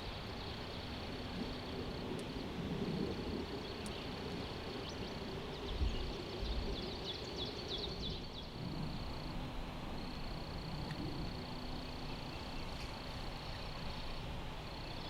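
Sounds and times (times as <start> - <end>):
rain hiss: 0.0 - 15.0
songbird chirping: 0.0 - 15.0.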